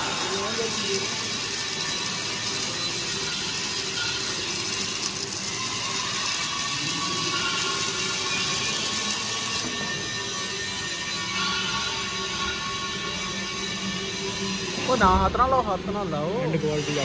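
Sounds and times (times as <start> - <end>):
welding arcs crackling: 0.0 - 17.0.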